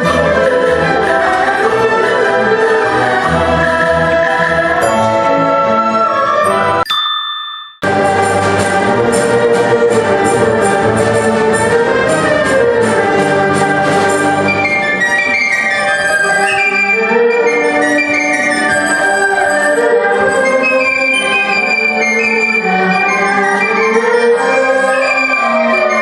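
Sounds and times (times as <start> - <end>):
traditional orchestra playing: 0.0 - 6.9, 7.8 - 26.0.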